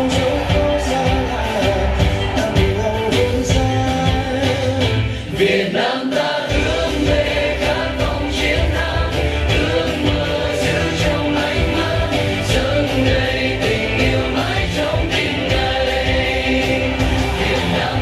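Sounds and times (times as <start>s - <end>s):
dance song over loudspeakers: 0.0s - 18.0s.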